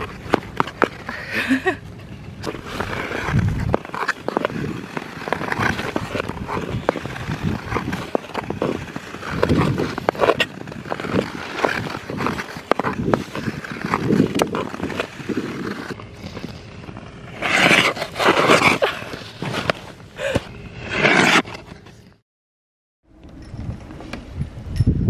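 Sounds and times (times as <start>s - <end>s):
ice skates scraping on ice: 0.0s - 22.2s.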